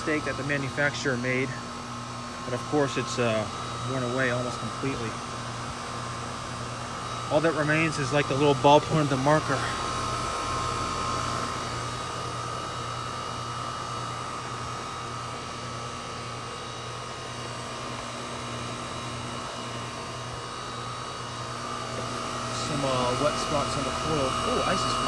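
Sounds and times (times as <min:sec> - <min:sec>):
heat pump compressor and fan hum: 0:00.0 - 0:25.0.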